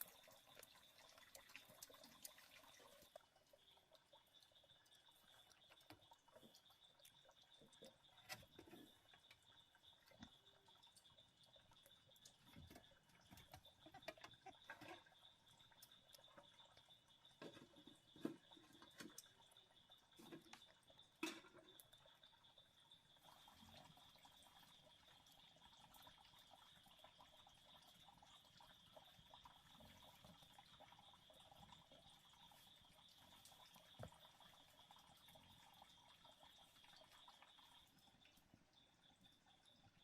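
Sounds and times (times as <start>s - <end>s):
soft drips or clicks: 0.0s - 40.0s.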